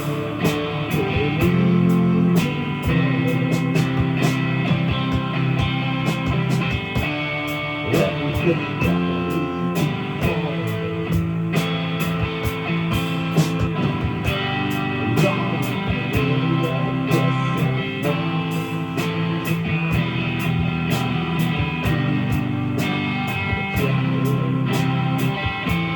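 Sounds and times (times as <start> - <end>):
drums and cymbals: 0.0 - 25.9
electric guitar: 0.0 - 25.9.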